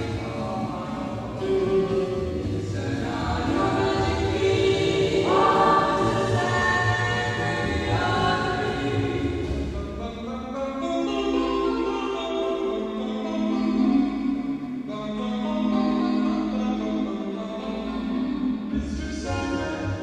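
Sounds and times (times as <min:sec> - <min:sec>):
low throbbing bass: 0:00.0 - 0:10.6, 0:13.6 - 0:20.0
distorted choir-like vocal chords: 0:00.0 - 0:20.0.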